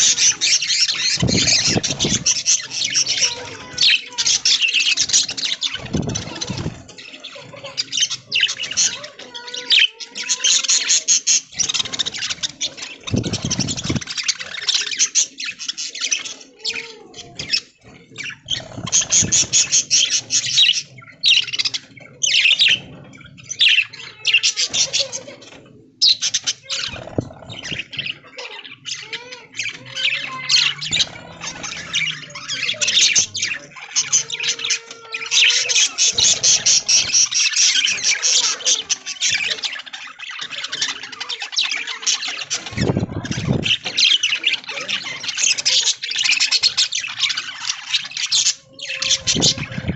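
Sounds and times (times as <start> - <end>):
budgies chattering and chirping: 0.0 - 49.9.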